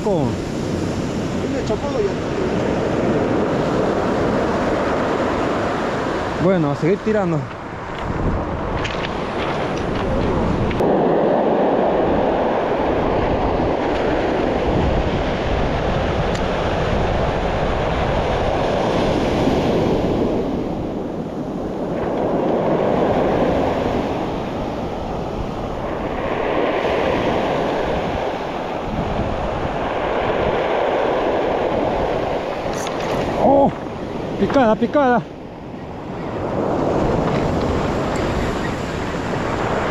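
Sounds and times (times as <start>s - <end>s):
waves breaking on pebble beach: 0.0s - 39.9s.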